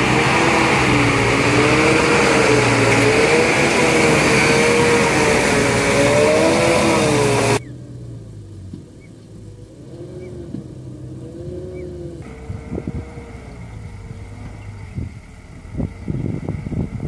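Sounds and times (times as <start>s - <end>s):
distant truck engine: 0.0s - 17.0s
truck diesel engine labouring: 0.0s - 17.0s.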